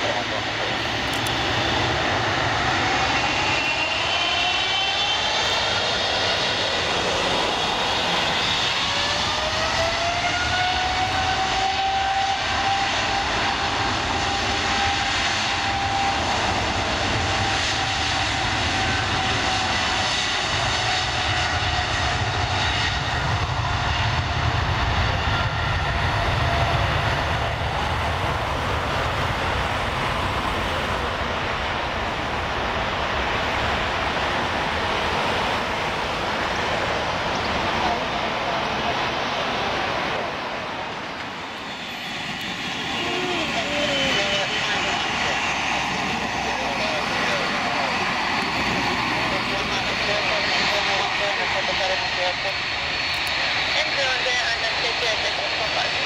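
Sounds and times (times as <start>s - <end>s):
jet engine rumble: 0.0s - 56.0s
jet engine whine: 0.0s - 56.0s.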